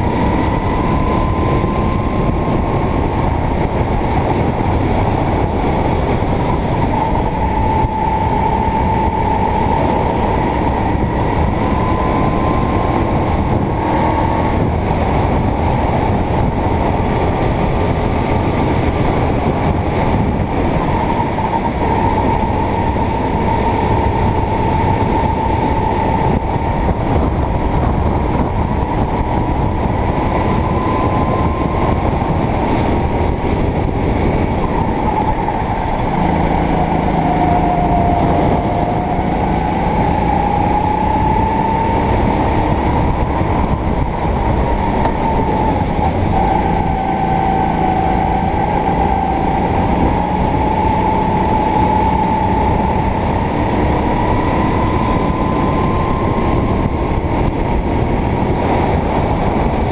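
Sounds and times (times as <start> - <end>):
kart engine whining: 0.0 - 59.9
low rumble of kart on track: 0.0 - 59.9.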